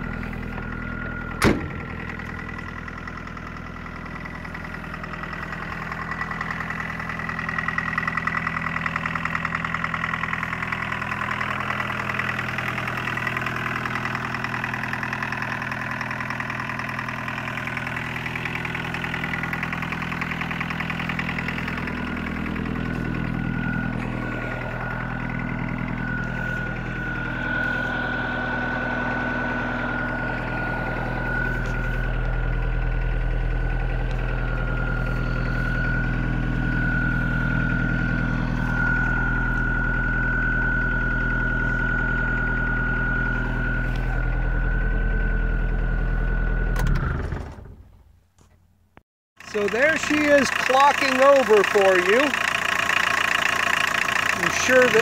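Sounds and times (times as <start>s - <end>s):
turbocharger whine: 0.0s - 48.0s, 49.4s - 55.0s
diesel engine idling: 0.0s - 48.1s, 48.7s - 55.0s.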